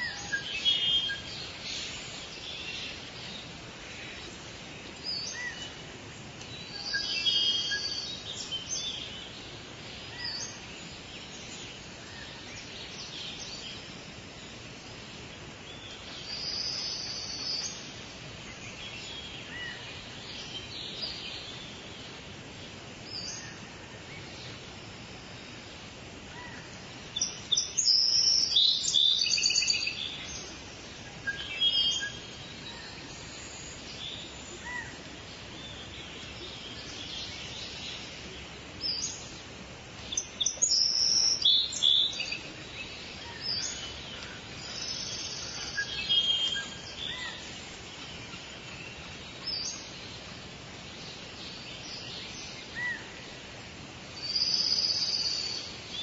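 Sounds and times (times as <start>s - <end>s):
background hiss: 0.0s - 56.0s
songbirds chirping: 0.0s - 56.0s.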